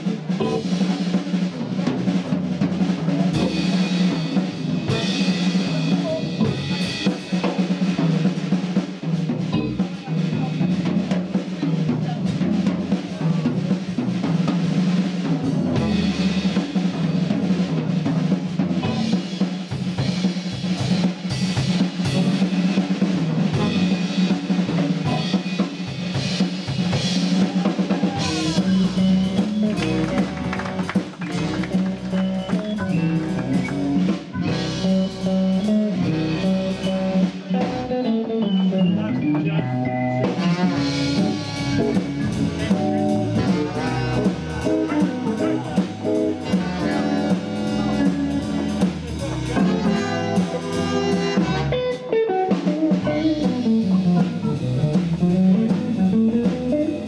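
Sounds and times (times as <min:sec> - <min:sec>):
jazz combo playing swing: 0:00.0 - 0:57.0.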